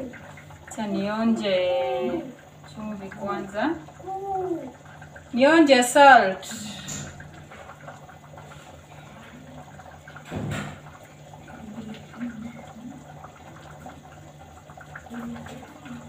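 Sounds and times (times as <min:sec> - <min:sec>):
stew bubbling in a pot: 0:00.0 - 0:16.0.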